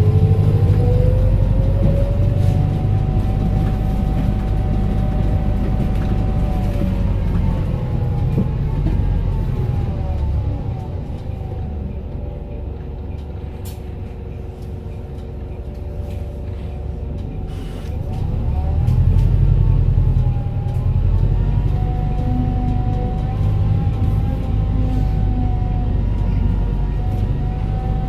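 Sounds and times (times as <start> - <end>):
diesel bus engine rumble: 0.0 - 28.0.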